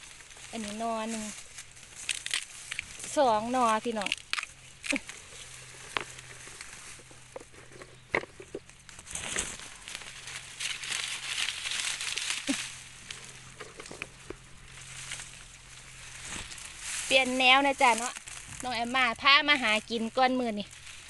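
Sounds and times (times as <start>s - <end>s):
dry leaves rustling: 0.0s - 21.0s
twigs snapping: 1.2s - 17.1s, 17.7s - 18.7s.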